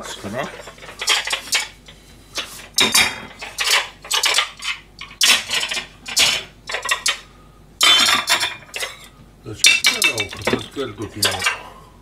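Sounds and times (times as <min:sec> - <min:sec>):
dishes clinking and clattering: 0:00.4 - 0:07.2, 0:07.8 - 0:11.7.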